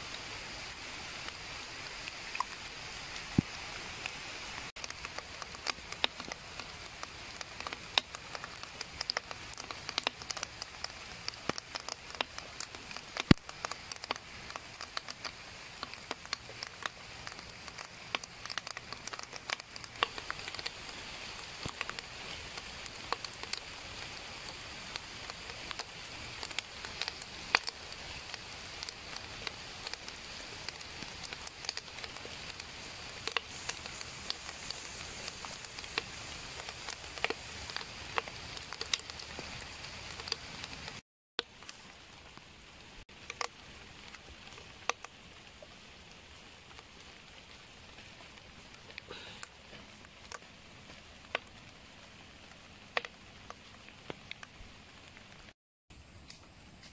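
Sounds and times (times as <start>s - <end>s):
sizzling hiss: 0.0s - 55.5s
wood fire crackling and popping: 0.6s - 55.6s.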